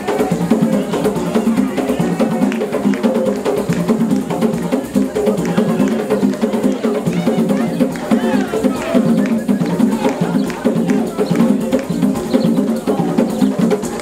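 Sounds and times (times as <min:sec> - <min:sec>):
drum ensemble fast rhythm: 0:00.0 - 0:14.0.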